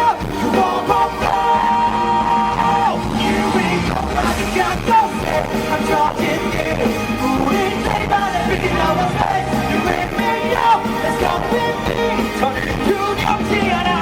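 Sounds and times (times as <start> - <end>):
live pop-rock band: 0.0 - 14.0
man singing: 0.0 - 14.0.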